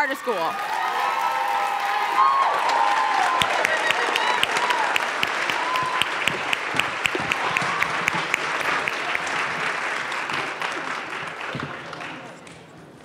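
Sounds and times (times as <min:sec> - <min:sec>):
audience cheering: 0:00.0 - 0:11.7
audience clapping: 0:00.0 - 0:12.9.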